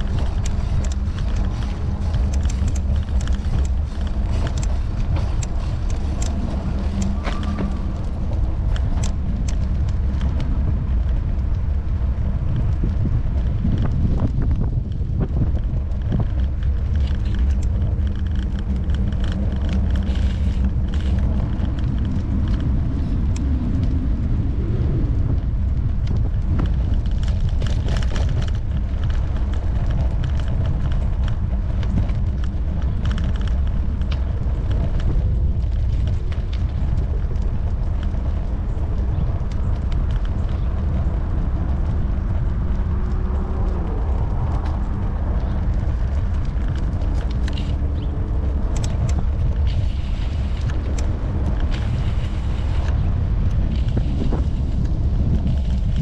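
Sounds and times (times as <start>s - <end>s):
bike road noise: 0.0s - 56.0s
wind rumble on microphone: 0.0s - 56.0s.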